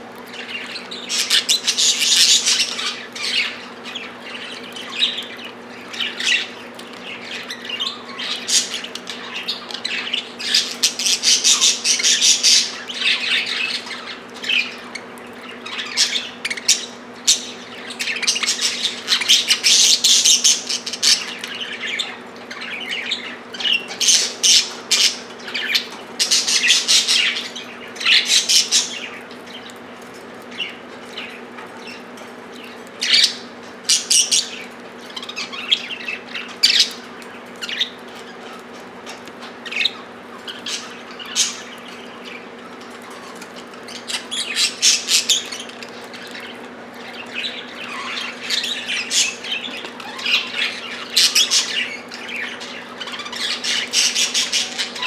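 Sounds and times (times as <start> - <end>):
budgerigars chattering and squawking: 0.2 - 55.0.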